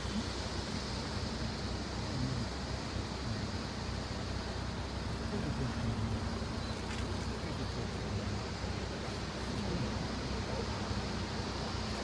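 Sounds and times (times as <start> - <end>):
rail cart engine idling: 0.0 - 12.0.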